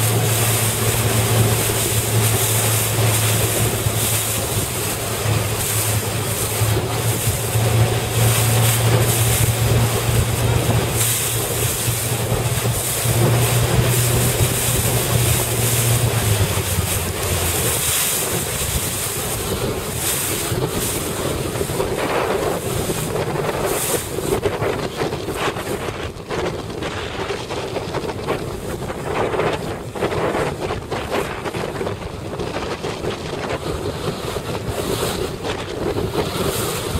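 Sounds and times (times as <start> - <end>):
motorboat engine hum: 0.0 - 36.9
rushing choppy water: 0.0 - 36.9
wind buffeting microphone: 0.0 - 36.9.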